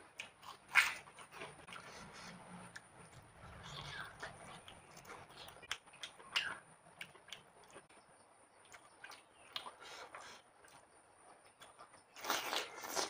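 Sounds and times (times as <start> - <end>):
person chewing: 0.0 - 7.9, 8.6 - 13.0.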